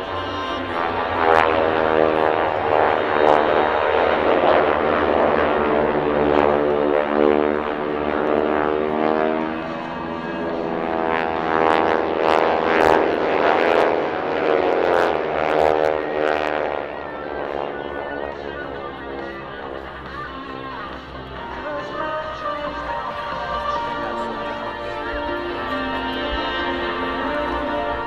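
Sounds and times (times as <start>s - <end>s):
propeller airplane engines droning: 0.0s - 28.0s.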